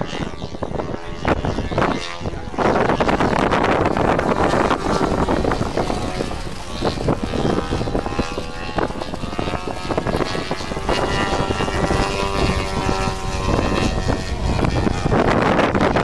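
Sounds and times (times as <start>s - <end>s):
model plane engine and propeller: 0.0s - 16.0s
wind buffeting microphone: 0.0s - 16.0s.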